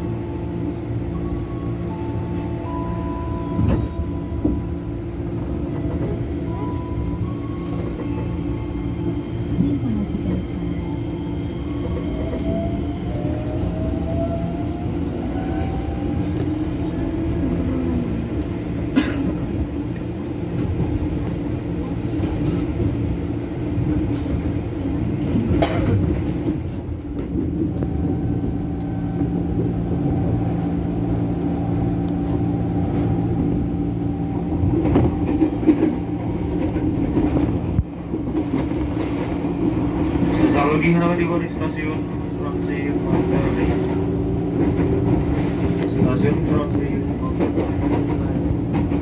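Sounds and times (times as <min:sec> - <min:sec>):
electric train rumbling: 0:00.0 - 0:49.0.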